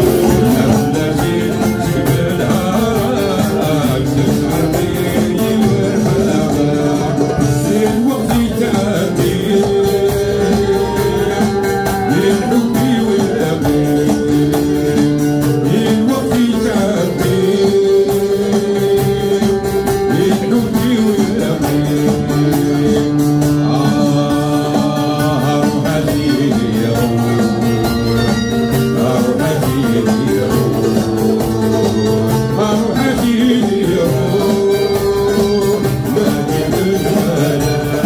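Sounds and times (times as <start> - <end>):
lute playing: 0.0 - 38.0
steady drum beat: 0.0 - 38.0.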